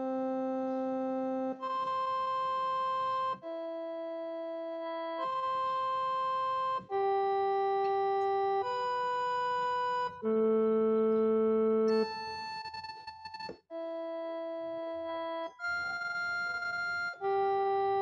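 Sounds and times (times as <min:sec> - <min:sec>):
slow organ chords: 0:00.0 - 0:18.0.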